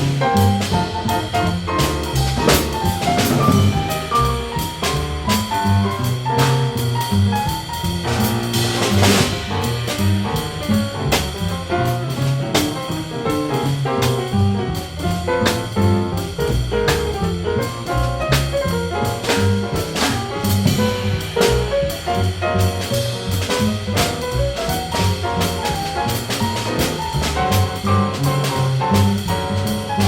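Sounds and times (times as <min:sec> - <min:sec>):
drum kit: 0:00.0 - 0:30.0
small jazz combo playing: 0:00.0 - 0:30.0.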